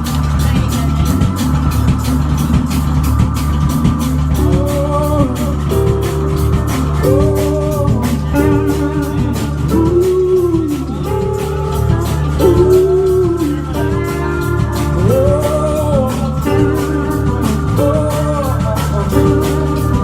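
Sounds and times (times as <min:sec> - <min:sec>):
bending sliding lead guitar notes: 0:00.0 - 0:20.0
cymbal beat: 0:00.0 - 0:20.0
live rock band playing: 0:00.0 - 0:20.0.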